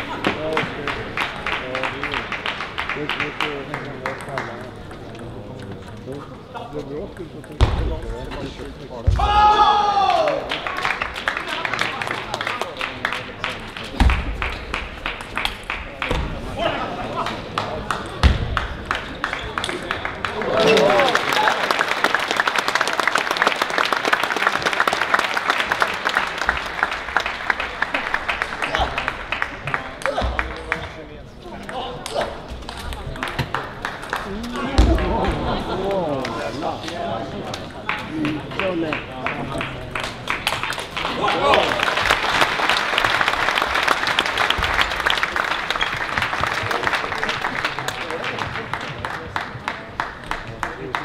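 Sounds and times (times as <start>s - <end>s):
audience applauding: 0.0s - 5.0s, 10.0s - 30.8s, 33.1s - 51.0s
spectators clapping: 0.0s - 5.7s, 9.4s - 51.0s.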